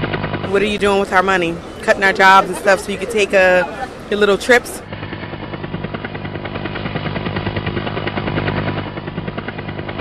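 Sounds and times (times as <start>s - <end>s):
engine hum: 0.0s - 10.0s
helicopter rotor beating: 0.2s - 10.0s.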